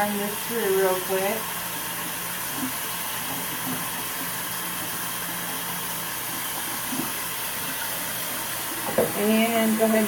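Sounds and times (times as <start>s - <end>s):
faucet water running into sink: 0.0s - 10.0s.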